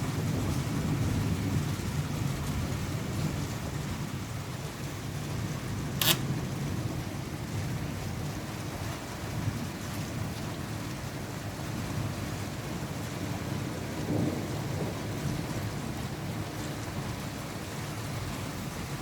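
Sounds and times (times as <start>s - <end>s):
low rumble of thunder: 0.0s - 18.6s
rain falling: 0.0s - 19.0s.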